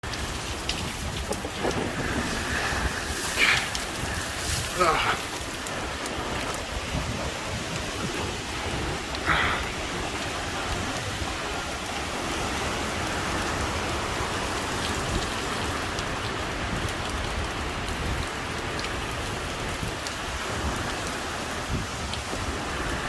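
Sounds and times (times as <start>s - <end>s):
heavy rain hiss: 0.0s - 23.0s
raindrops tapping surfaces: 0.0s - 23.0s.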